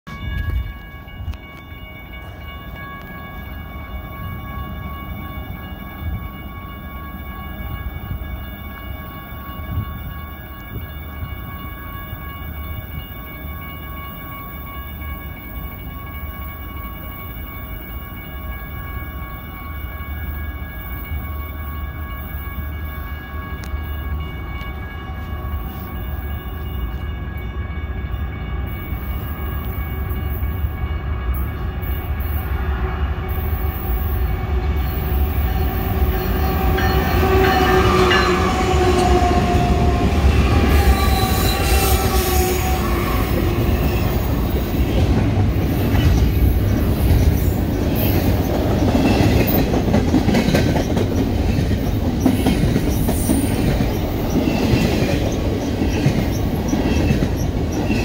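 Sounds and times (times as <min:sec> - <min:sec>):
freight train rumbling on rails: 0:00.0 - 0:58.0.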